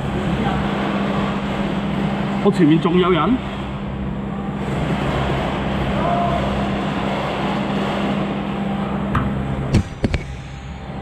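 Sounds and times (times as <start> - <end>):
low hum and rushing noise: 0.0 - 11.0.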